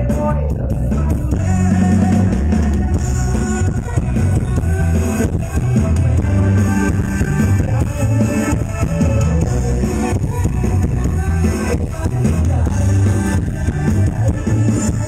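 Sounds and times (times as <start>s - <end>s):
live band with heavy bass: 0.0s - 15.0s.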